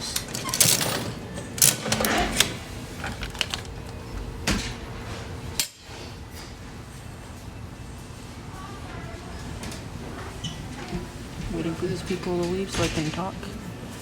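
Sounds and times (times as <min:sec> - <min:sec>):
faint machine hum: 0:00.0 - 0:14.0.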